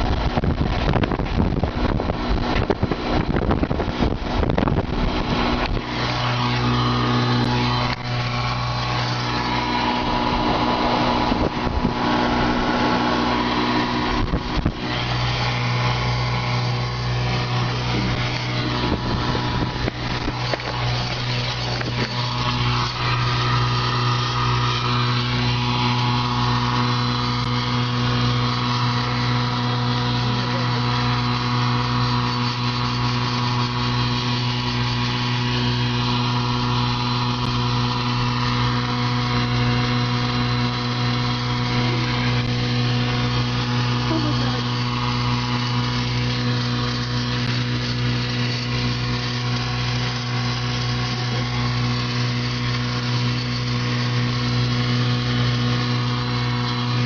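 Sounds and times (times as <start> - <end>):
car engine drone inside cabin: 0.0 - 57.0
low pulse: 0.0 - 57.0.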